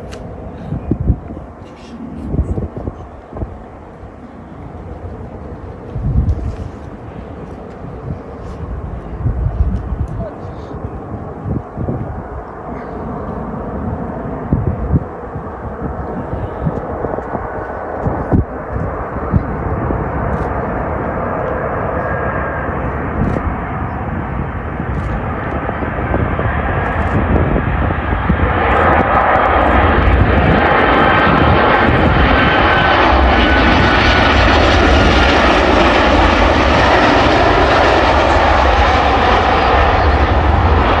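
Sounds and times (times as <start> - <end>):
jet engines of airliner landing: 0.0 - 41.0.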